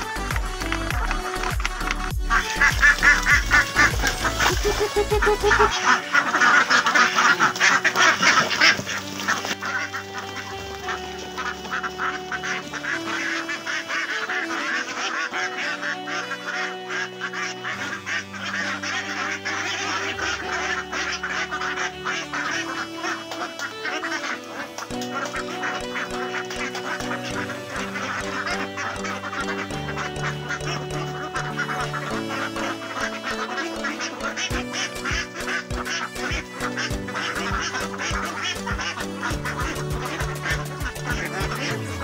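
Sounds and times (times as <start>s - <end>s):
background music with held notes: 0.0s - 42.0s
flock of ducks quacking: 0.0s - 42.0s.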